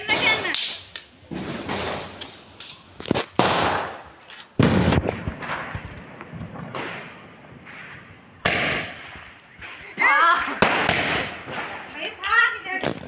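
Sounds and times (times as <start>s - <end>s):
firecrackers banging: 0.0s - 13.0s.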